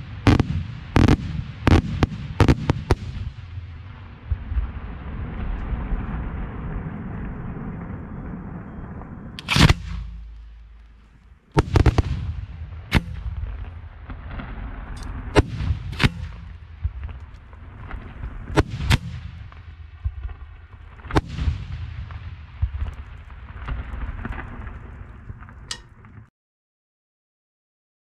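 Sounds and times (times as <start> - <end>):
firework shells booming: 0.0 - 8.0, 8.6 - 26.3.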